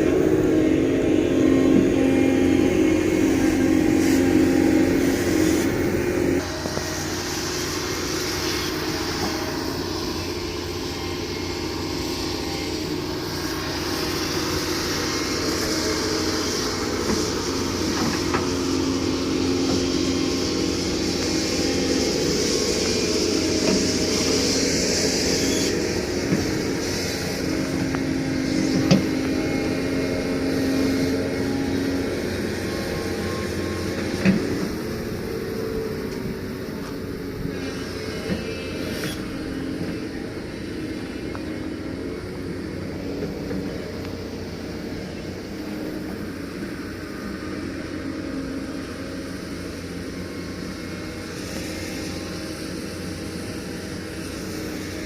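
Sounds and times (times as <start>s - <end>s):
excavator engine droning: 0.0s - 55.0s.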